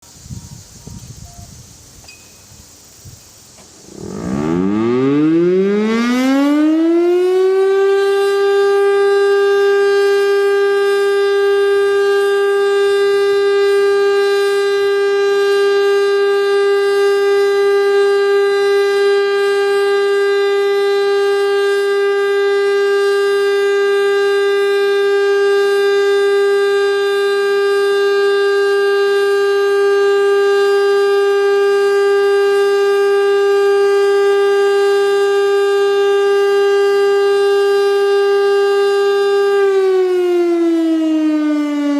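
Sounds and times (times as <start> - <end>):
warning siren winding up: 3.8 - 41.9.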